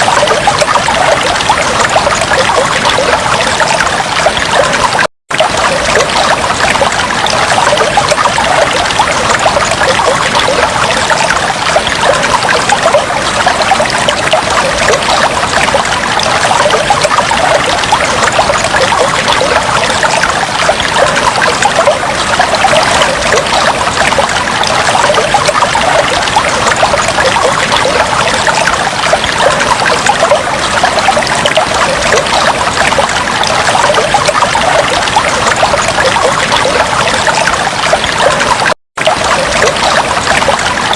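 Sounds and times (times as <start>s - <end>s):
fish tank water bubbling: 0.0s - 40.9s.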